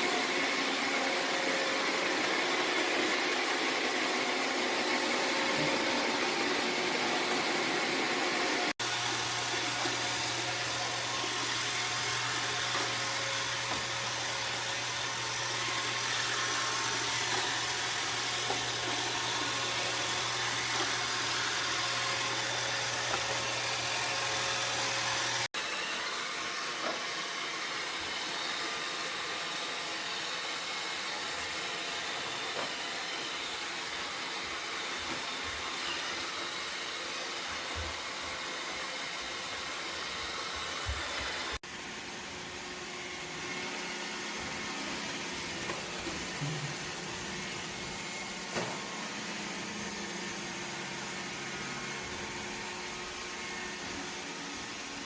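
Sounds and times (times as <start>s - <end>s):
robot vacuum whirring: 0.0s - 55.0s.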